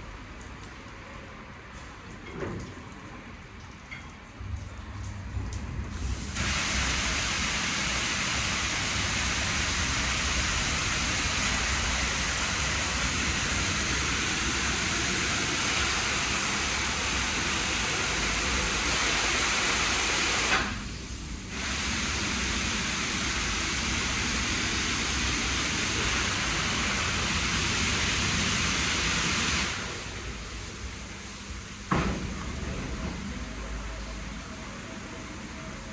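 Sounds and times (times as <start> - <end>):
car wash nozzles spraying: 5.8 - 35.9.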